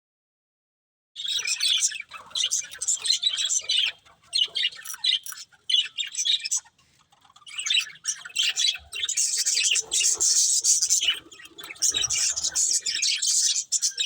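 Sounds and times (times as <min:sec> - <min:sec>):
budgerigars chirping and squawking: 0:01.2 - 0:14.0.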